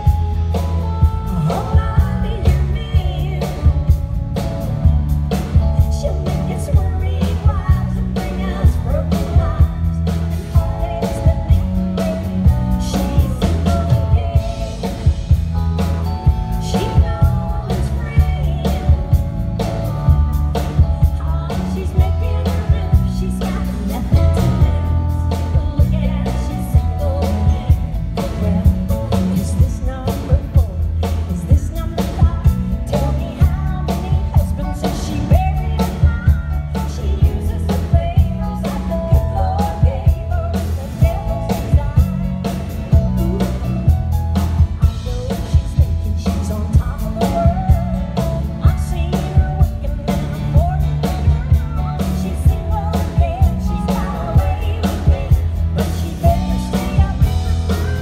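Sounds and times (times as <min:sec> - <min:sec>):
bass: 0:00.0 - 0:58.0
drum kit beat: 0:00.0 - 0:58.0
guitar: 0:00.0 - 0:58.0
woman singing: 0:00.0 - 0:58.0.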